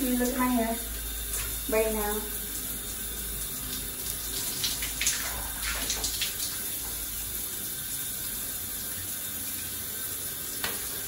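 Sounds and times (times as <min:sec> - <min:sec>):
shower spray running: 0:00.0 - 0:11.0.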